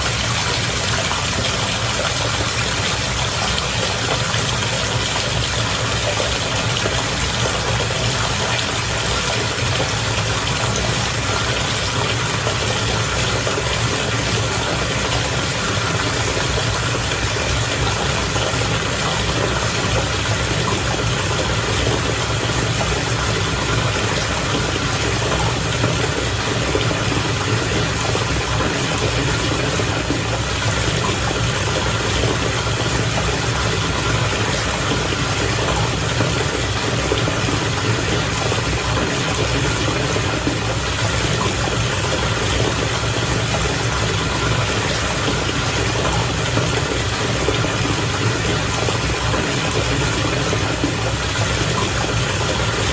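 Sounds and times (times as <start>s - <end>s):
bath water bubbling: 0.0s - 52.9s
low mechanical hum: 0.0s - 52.9s.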